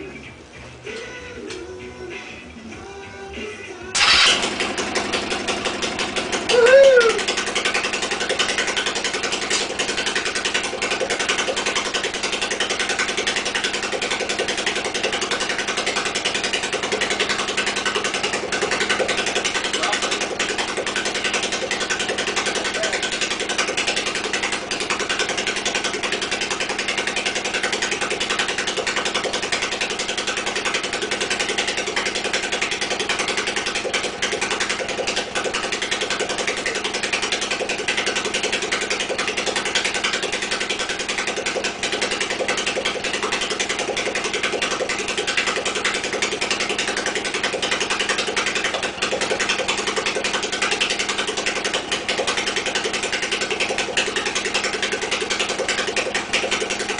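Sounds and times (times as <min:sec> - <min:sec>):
motorcycle engine idling: 0:03.9 - 0:56.9.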